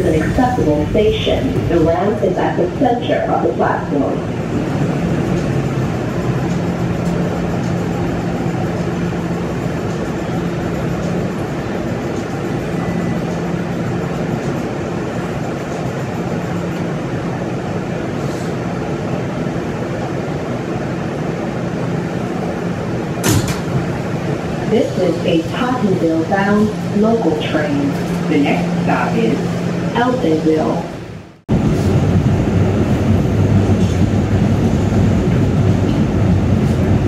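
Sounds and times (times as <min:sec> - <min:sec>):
wheels rumbling on rail: 0:00.0 - 0:37.0.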